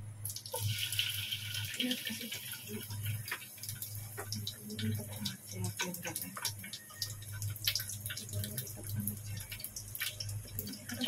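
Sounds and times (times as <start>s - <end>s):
oil popping and crackling: 0.2s - 11.0s.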